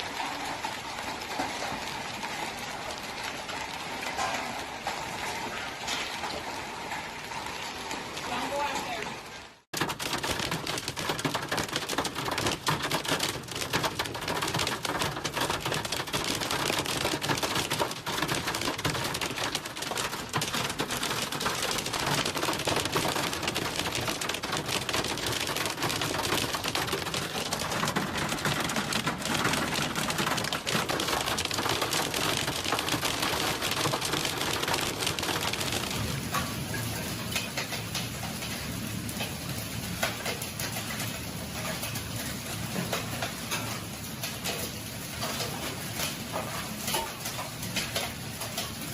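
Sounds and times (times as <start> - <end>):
hail and rain on hard surfaces: 0.0 - 48.9.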